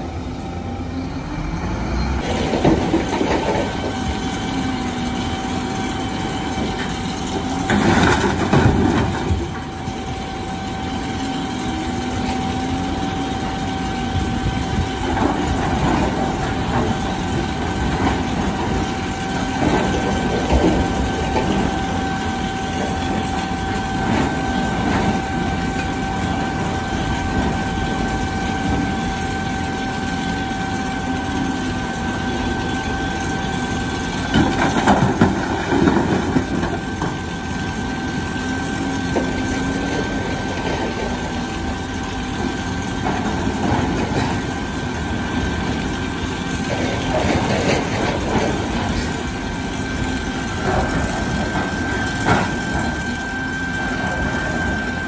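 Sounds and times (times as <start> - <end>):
excavator diesel engine working: 0.0 - 55.0
high hydraulic whine: 0.0 - 55.0.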